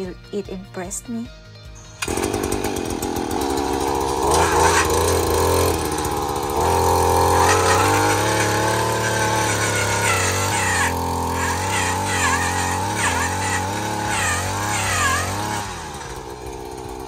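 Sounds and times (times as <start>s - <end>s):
earth auger engine running: 1.8s - 17.0s.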